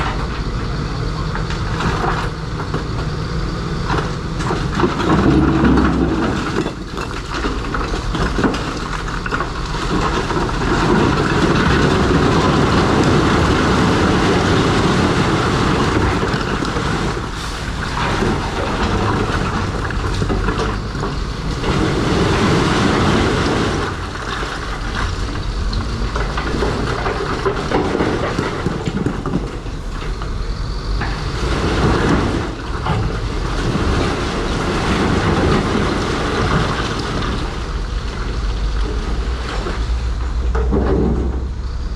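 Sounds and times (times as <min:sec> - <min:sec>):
diesel engine under load: 0:00.0 - 0:41.9
steel tracks clattering: 0:00.0 - 0:41.9.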